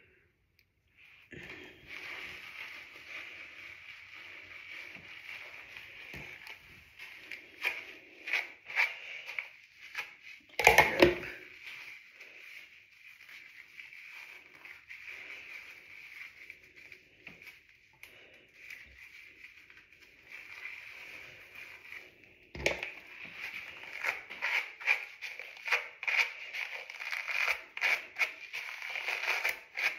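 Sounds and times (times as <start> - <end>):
wet hair squishing: 1.0 - 29.9.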